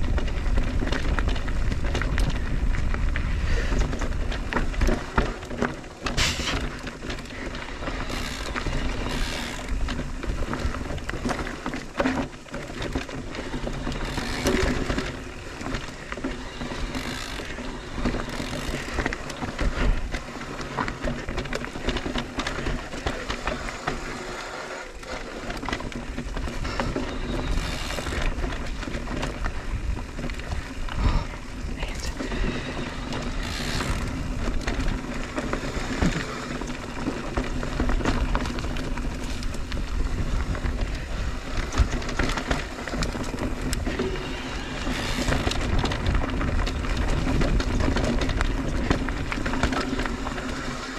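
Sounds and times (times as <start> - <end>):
bike clicks and rattles: 0.0 - 50.9
bike tyres on dirt trail: 0.0 - 50.9.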